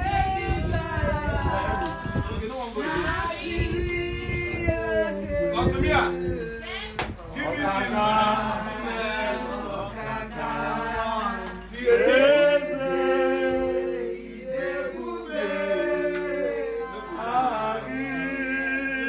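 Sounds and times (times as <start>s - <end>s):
voices singing unaccompanied: 0.0s - 19.0s.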